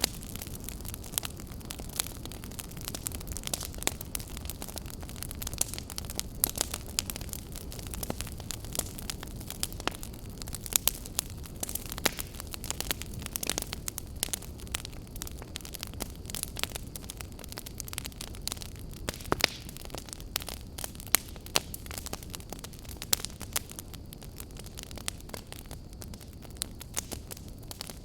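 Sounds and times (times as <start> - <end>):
burning wood crackling and popping: 0.0 - 28.0
low rumble of flames: 0.0 - 28.0.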